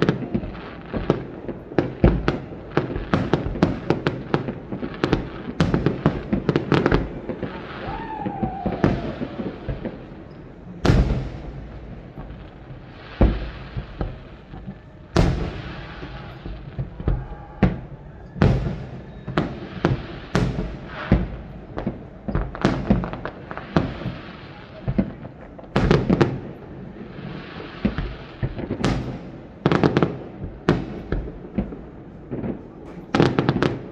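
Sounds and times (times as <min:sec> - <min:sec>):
fireworks bursting bangs: 0:00.0 - 0:33.9.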